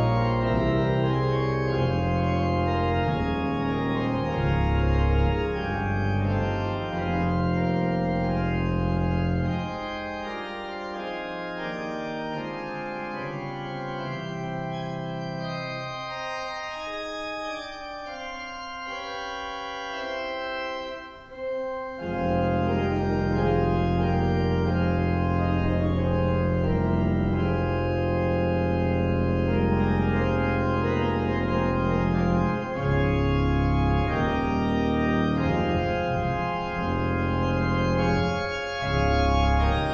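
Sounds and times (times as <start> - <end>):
organ playing slow chords: 0.0 - 39.9.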